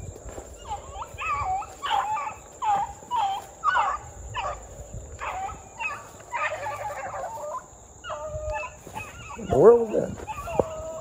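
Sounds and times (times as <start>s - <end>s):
dogs baying: 0.3s - 11.0s.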